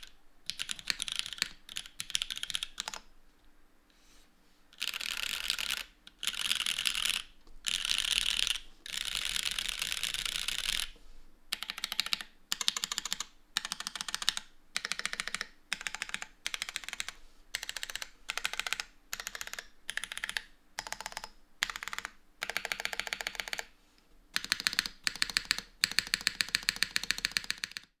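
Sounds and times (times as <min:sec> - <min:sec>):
mechanical keyboard typing: 0:00.0 - 0:03.1, 0:04.8 - 0:23.7, 0:24.4 - 0:28.0.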